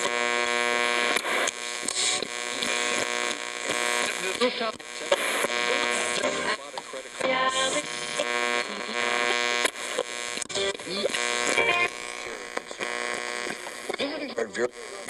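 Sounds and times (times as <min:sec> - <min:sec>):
radio static and humming: 0:00.0 - 0:15.0.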